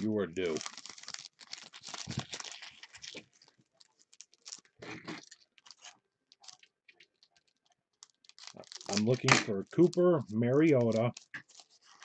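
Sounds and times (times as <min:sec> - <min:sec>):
foil card packs crinkling: 0:00.0 - 0:06.7, 0:08.0 - 0:12.0.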